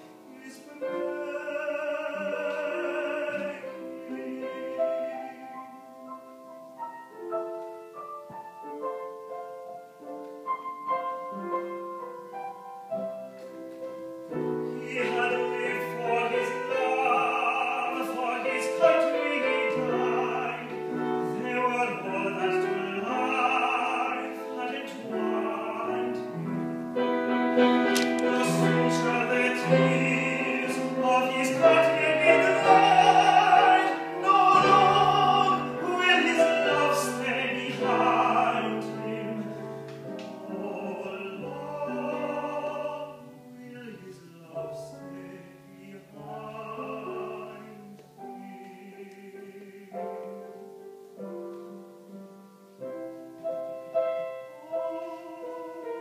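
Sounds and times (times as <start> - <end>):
man singing classical with vibrato: 0.0 - 56.0
piano playing: 0.0 - 56.0.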